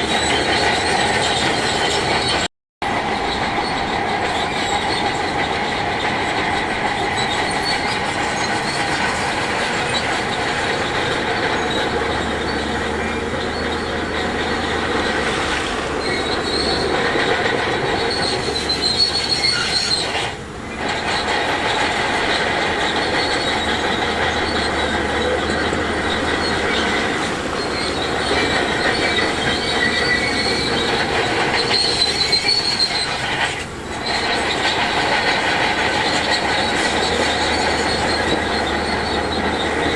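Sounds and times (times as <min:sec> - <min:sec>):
bulldozer engine running: 0:00.0 - 0:39.9
crawler tracks squealing and clattering: 0:00.0 - 0:39.9.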